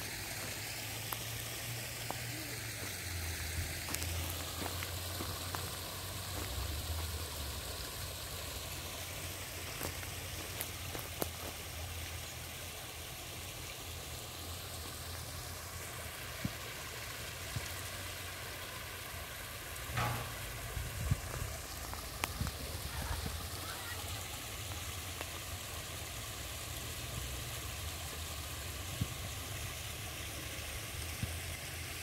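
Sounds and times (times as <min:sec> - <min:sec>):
stream trickling over stones: 0:00.0 - 0:32.0.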